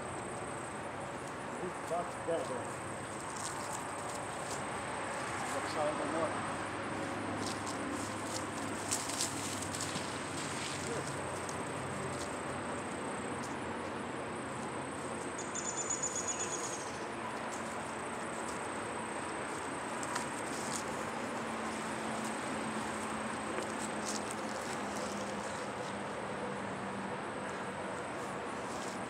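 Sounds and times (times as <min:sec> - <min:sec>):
insects buzzing: 0:00.0 - 0:29.0
rapidly pulsed insect trill: 0:00.0 - 0:29.0.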